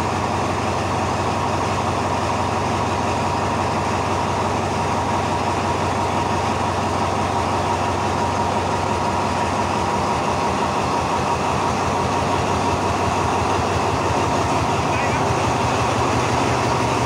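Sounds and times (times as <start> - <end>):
locomotive engine hum: 0.0 - 17.0.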